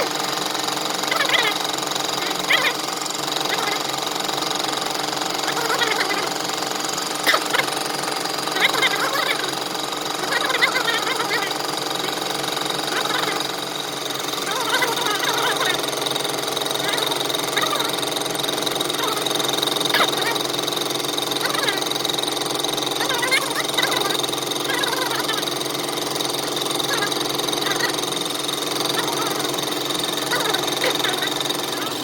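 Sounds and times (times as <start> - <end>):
workshop machinery humming: 0.0 - 32.0.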